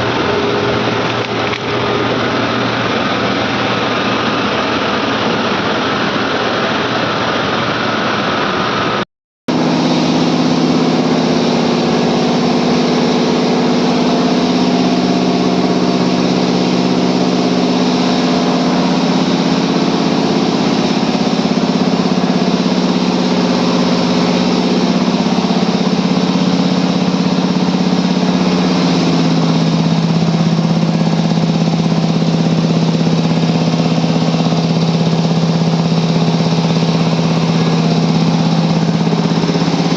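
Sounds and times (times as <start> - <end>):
air compressors humming: 0.0 - 7.0, 9.5 - 39.9.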